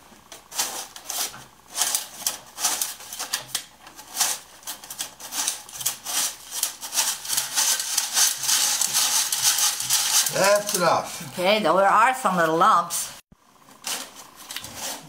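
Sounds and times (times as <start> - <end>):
flour sifter rasping: 0.0 - 11.6, 12.4 - 15.0.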